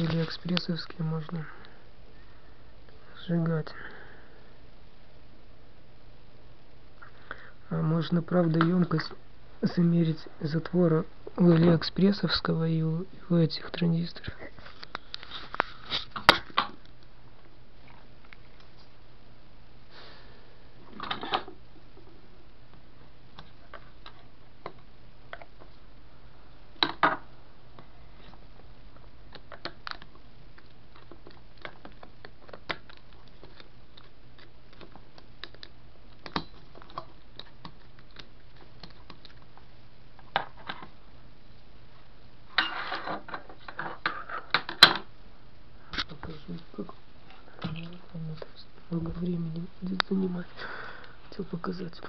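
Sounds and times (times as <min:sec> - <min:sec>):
faint low hum: 0:00.0 - 0:52.0.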